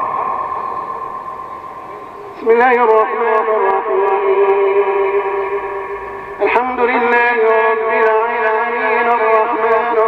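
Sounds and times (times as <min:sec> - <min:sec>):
man chanting through loudspeaker: 0:00.0 - 0:10.0.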